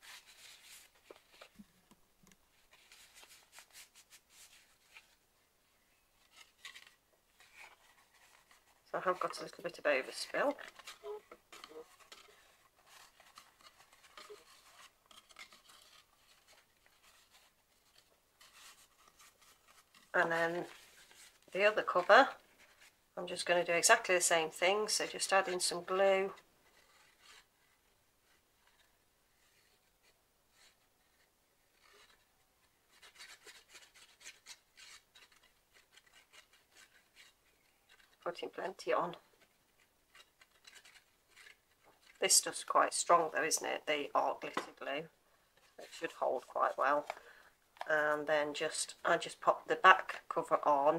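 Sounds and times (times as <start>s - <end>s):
paper pages rustling: 0.0s - 5.2s, 6.1s - 50.6s.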